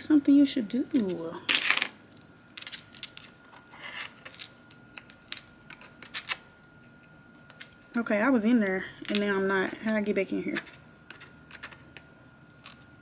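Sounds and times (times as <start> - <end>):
small tools clicking and tapping: 0.8 - 12.9.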